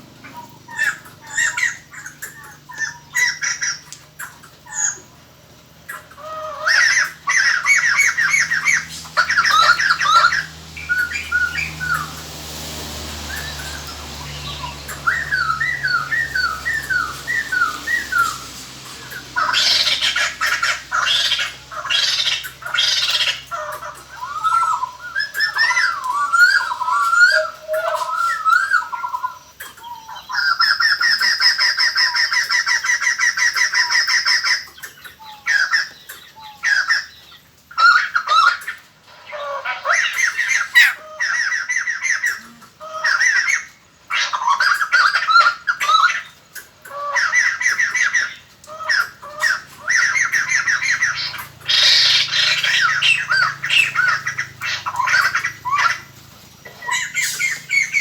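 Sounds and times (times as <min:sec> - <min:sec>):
birds cackling chatter: 0:00.0 - 0:58.0.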